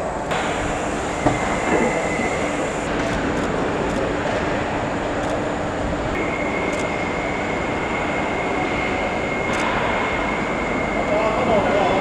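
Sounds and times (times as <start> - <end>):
machinery and ventilation noise: 0.0 - 12.0.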